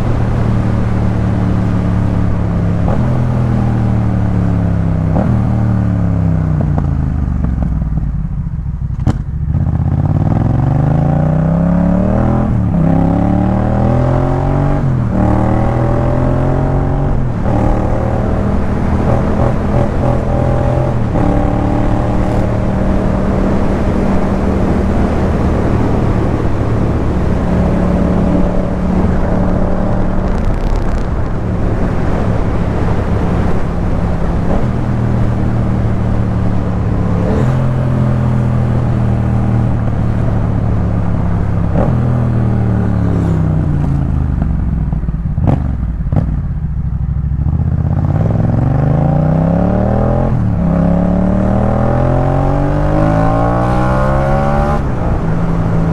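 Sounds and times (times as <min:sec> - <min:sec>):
motorcycle engine: 0:00.0 - 0:55.9.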